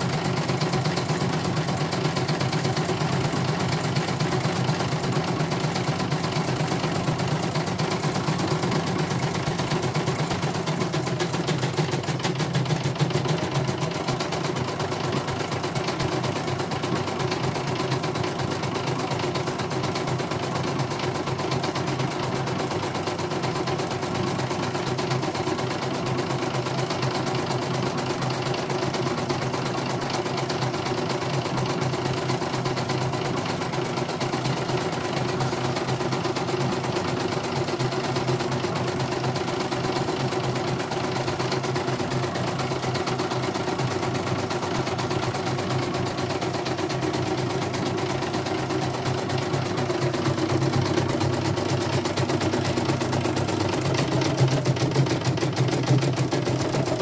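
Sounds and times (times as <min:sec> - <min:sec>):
embroidery machine stitching: 0:00.0 - 0:57.0.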